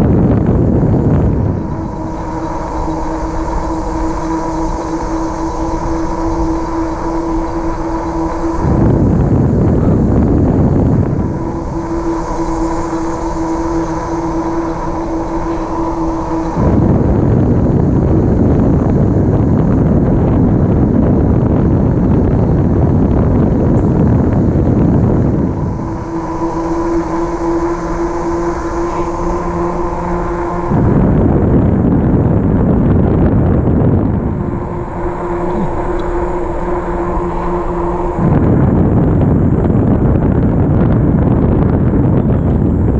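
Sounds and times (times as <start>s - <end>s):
electric bike hum: 0.0s - 42.9s
electric motor whine: 0.0s - 42.9s
wind on microphone: 0.0s - 42.9s.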